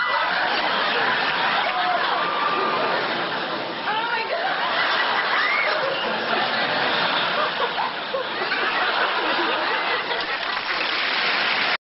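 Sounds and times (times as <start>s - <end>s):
group laughing and chattering: 0.0s - 10.8s.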